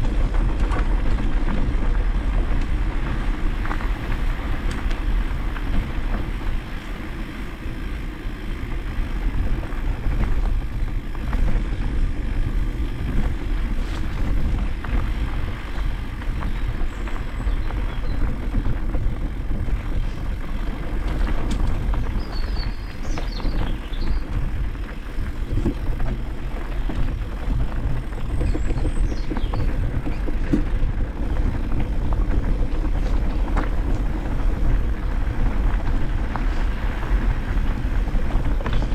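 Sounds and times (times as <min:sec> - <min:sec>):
motorcycle engines rumbling: 0:00.0 - 0:38.9.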